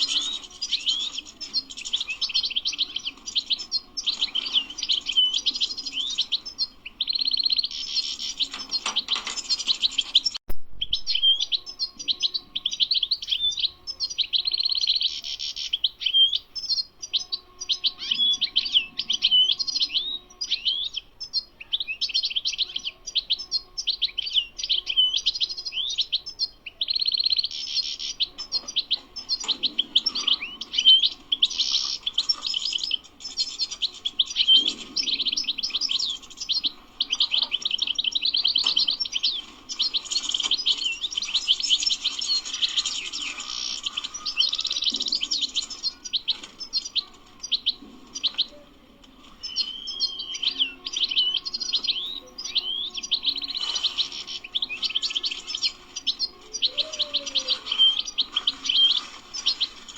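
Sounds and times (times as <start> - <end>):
goldfinch twittering song: 0.0 - 48.6, 49.2 - 59.9.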